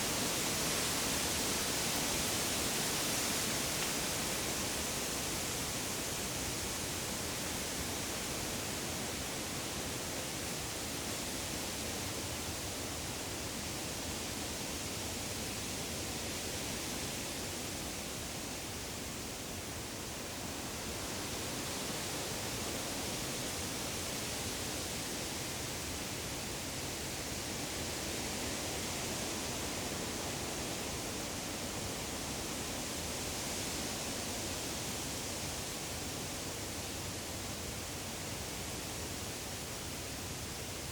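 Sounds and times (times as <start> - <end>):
wind rustling leaves: 0.0 - 40.9.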